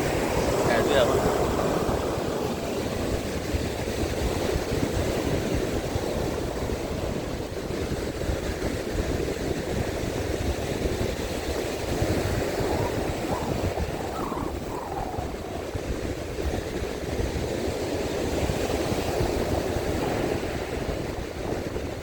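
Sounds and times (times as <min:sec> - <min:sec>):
sea waves breaking on beach: 0:00.0 - 0:22.0
wind rumbling on microphone: 0:00.0 - 0:22.0.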